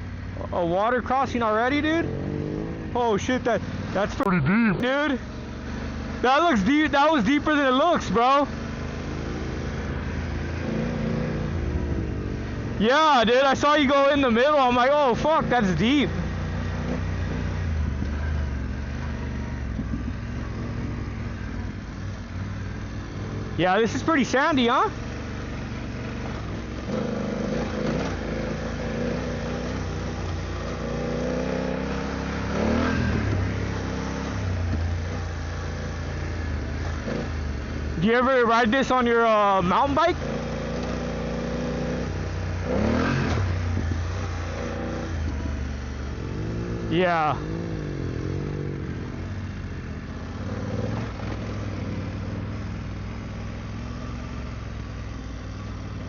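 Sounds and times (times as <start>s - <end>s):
motorcycle engine revving: 0.0s - 56.0s
trail noise: 0.0s - 56.0s
wind and tyre noise: 0.0s - 56.0s.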